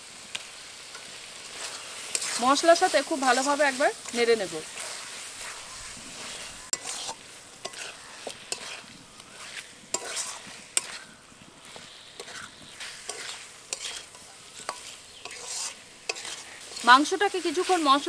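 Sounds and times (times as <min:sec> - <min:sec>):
masala sizzling: 0:00.0 - 0:18.0
spatula scraping metal pan: 0:01.0 - 0:18.0.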